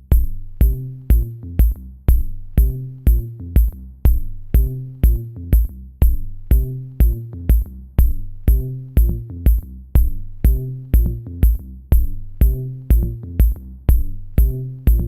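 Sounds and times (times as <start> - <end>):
kick drum: 0.0 - 15.0
low synth bass line: 0.0 - 15.0
ticking hi-hat: 0.0 - 15.0.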